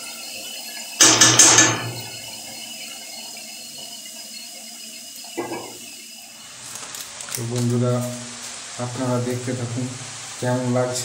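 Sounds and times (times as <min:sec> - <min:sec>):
cabbage sizzling in a wok: 0:00.0 - 0:11.0.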